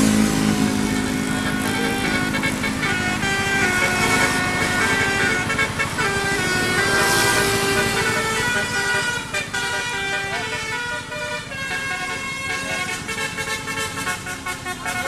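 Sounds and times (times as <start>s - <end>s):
engine rumbling: 0.0s - 15.0s
musical air horn melody: 0.0s - 15.0s.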